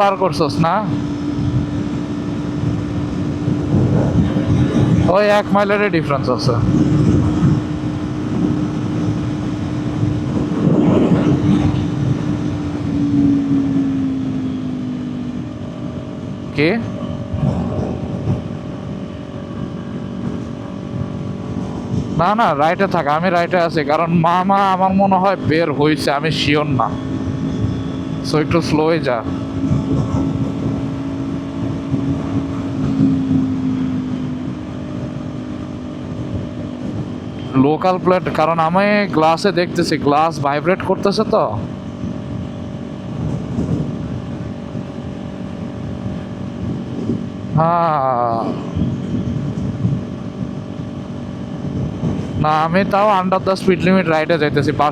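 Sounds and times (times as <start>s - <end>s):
motorcycle engine droning: 0.0s - 54.9s
wind rush: 0.0s - 54.9s.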